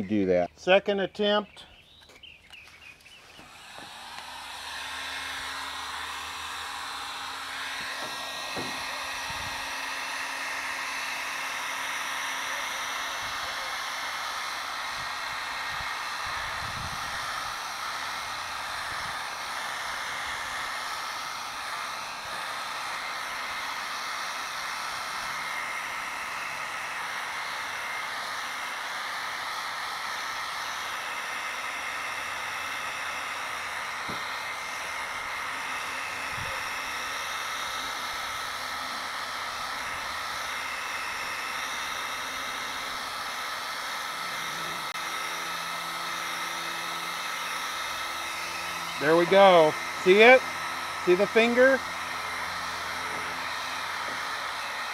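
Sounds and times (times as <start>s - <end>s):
heat gun blowing: 0.0s - 54.9s.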